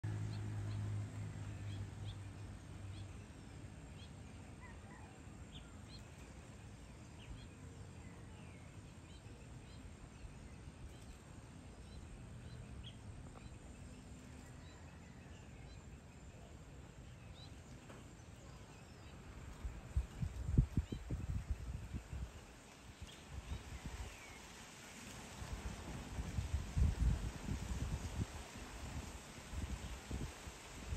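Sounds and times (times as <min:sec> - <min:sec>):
soft steady hiss: 0:00.0 - 0:30.9.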